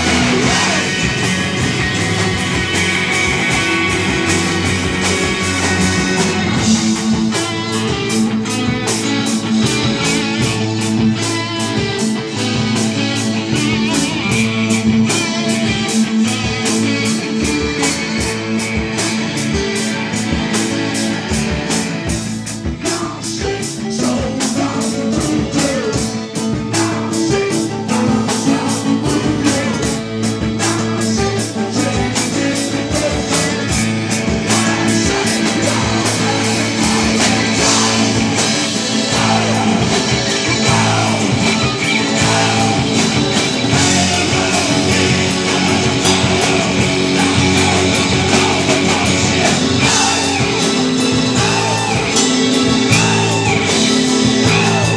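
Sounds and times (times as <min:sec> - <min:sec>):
voices singing together: 0:00.0 - 0:19.7, 0:22.6 - 0:54.9
live rock band playing: 0:00.0 - 0:54.9.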